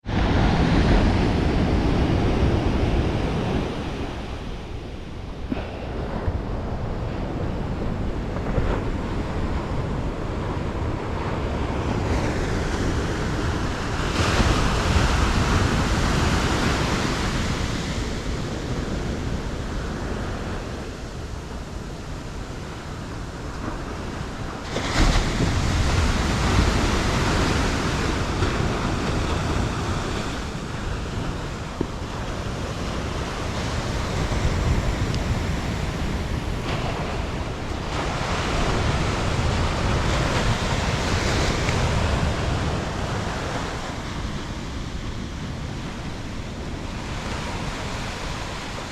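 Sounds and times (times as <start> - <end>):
ocean surf breaking: 0.0 - 48.9
wind rumbling on microphone: 0.0 - 48.9.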